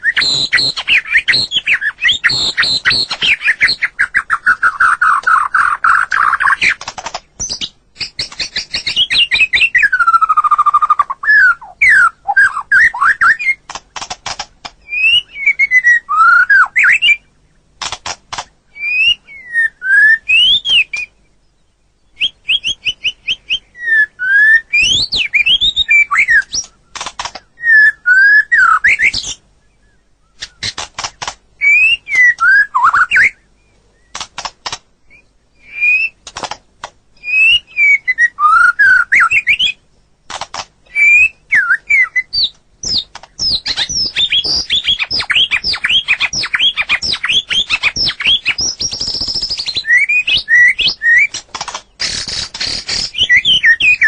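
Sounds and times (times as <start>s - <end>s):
songbird singing whistles and rattles: 0.0s - 54.0s.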